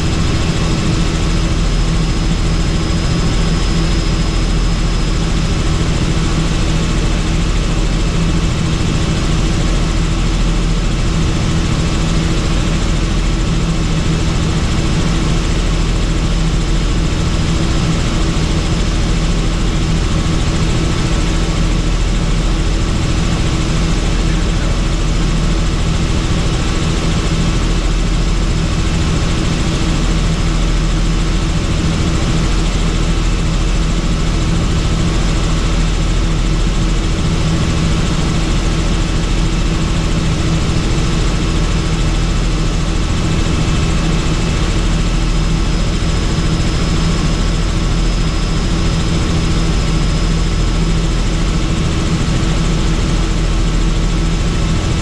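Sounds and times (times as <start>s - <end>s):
helicopter engine and rotors: 0.0s - 55.0s.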